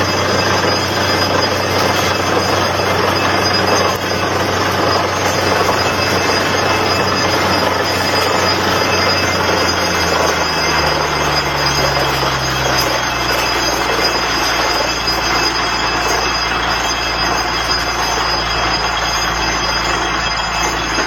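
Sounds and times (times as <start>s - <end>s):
drilling rig mechanical noise: 0.0s - 21.0s.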